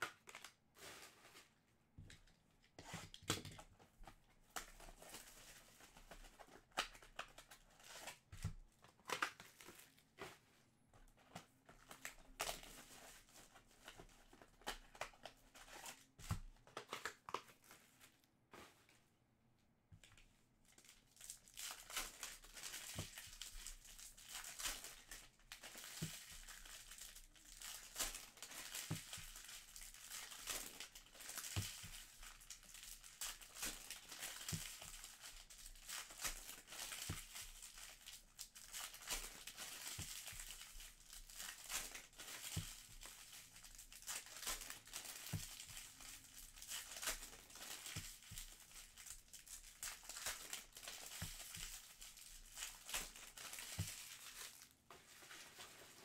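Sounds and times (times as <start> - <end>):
wrappers crinkling and rustling: 0.0 - 2.2, 2.8 - 19.0, 20.1 - 56.0.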